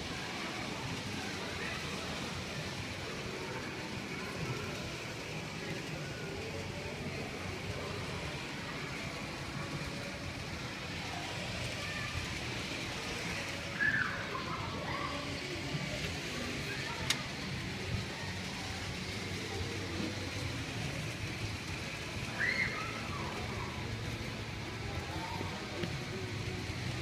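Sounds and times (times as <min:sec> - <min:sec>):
faint distant voices: 0:00.0 - 0:27.0
low rumble and hiss: 0:00.0 - 0:27.0.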